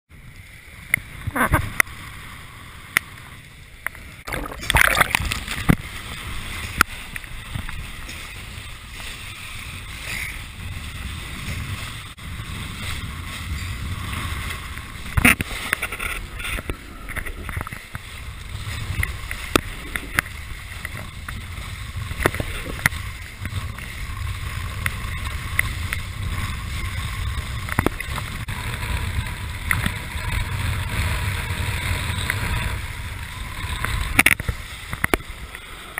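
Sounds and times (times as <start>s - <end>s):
water rushing under board: 1.0s - 35.9s
wind buffeting microphone: 4.1s - 35.9s.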